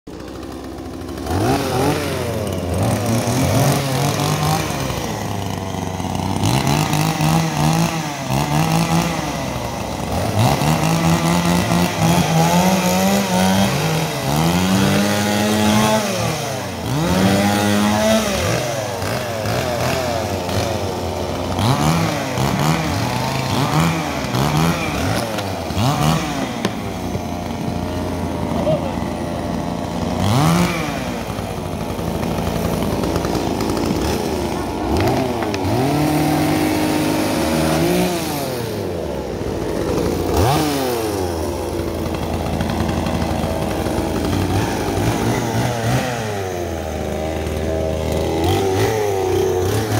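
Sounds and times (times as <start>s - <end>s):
chainsaw revving: 0.1s - 49.9s.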